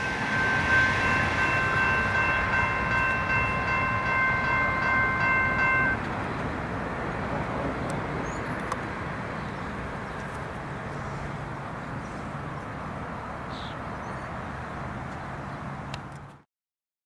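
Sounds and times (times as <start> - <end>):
train rumbling: 0.0 - 16.3.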